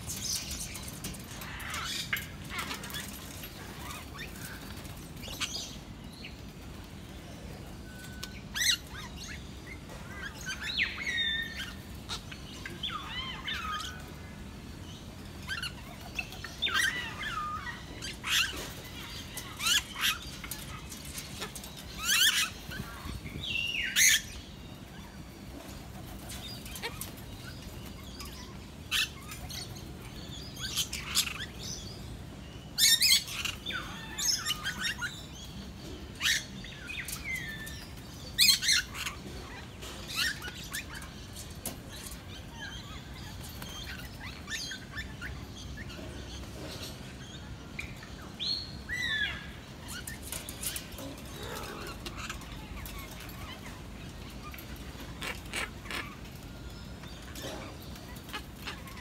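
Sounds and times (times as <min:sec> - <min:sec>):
birds squawking and chirping: 0:00.0 - 0:59.0
low background noise: 0:00.0 - 0:59.0.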